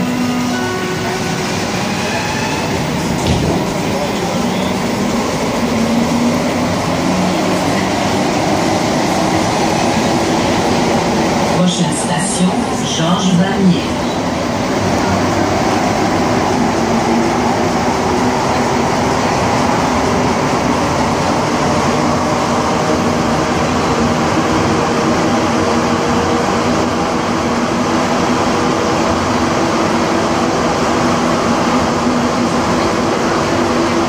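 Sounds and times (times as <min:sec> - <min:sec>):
metro train running rush: 0:00.0 - 0:34.0
train drive hum: 0:00.0 - 0:34.0.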